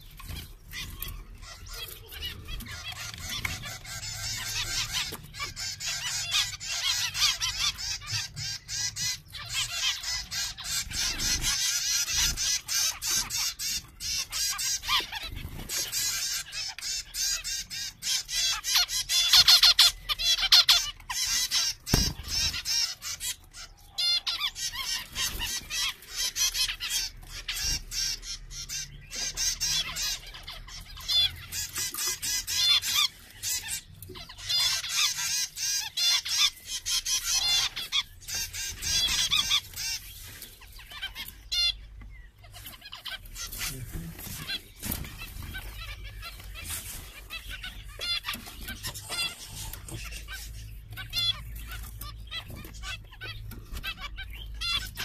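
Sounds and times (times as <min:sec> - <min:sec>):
finches calling: 0:00.0 - 0:55.0.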